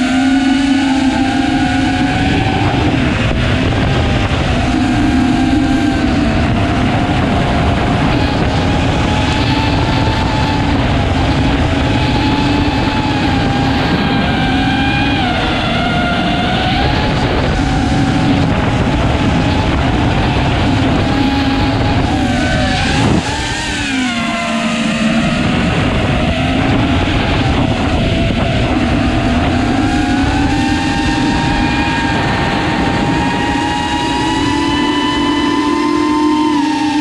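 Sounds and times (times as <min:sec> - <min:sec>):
drone motors whining: 0:00.0 - 0:37.0
wind rush on microphone: 0:00.0 - 0:37.0.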